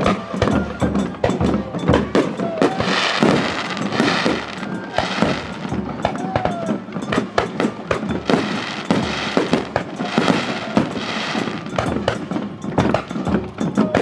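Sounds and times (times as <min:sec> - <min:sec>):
fireworks bursting: 0:00.0 - 0:14.0
fireworks crackling: 0:00.0 - 0:14.0.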